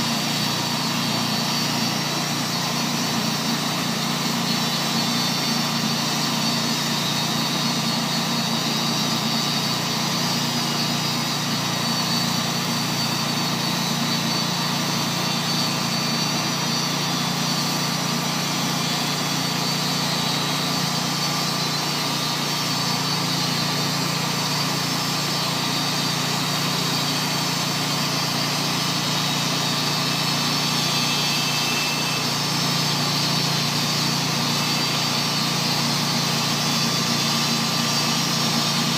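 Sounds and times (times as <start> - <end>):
bandmill sawing through log: 0.0 - 38.9.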